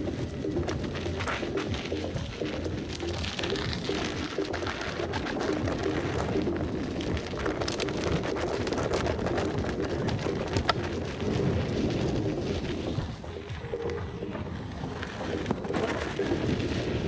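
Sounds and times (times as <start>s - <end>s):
steady rumble: 0.0s - 17.0s
tyre clicks and crackles on dirt: 0.0s - 17.0s
wind rushing on microphone: 0.0s - 17.0s.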